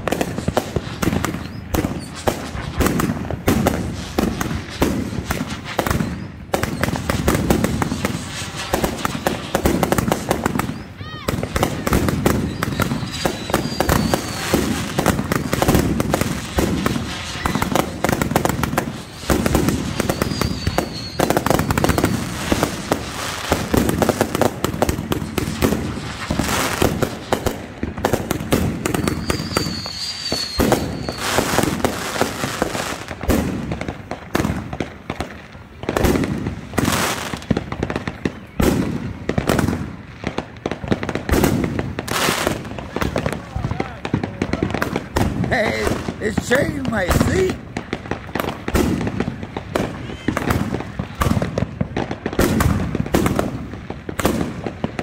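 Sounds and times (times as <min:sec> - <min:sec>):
firework whistles: 0:00.0 - 0:55.0
fireworks bangs and crackling: 0:00.0 - 0:55.0.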